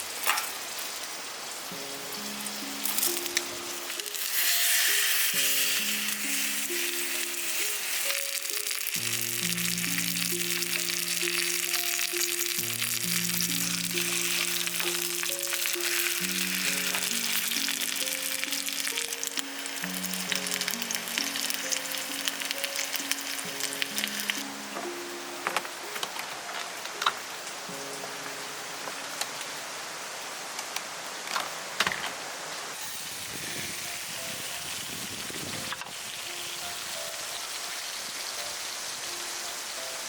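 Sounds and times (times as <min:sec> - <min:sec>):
food sizzling in a pan: 0:00.0 - 0:25.1, 0:32.7 - 0:40.0
soft background music: 0:00.2 - 0:30.3, 0:32.7 - 0:40.0.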